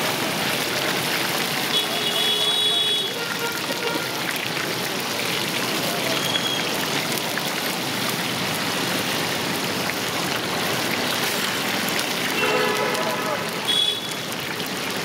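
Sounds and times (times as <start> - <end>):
hot oil sizzling and bubbling: 0.0 - 15.0.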